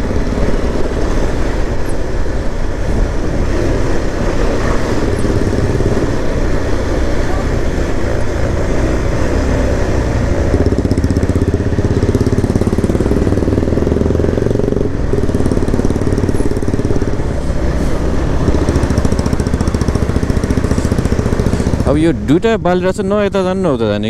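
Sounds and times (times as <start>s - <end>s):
motorcycle engine running: 0.0s - 23.6s.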